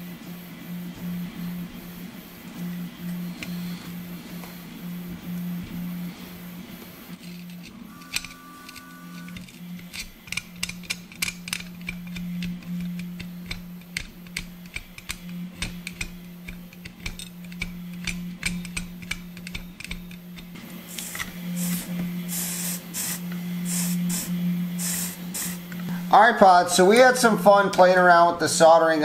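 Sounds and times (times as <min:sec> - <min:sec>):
steady low hum: 0:00.0 - 0:29.0
soldering iron sizzling on sponge: 0:00.8 - 0:27.6.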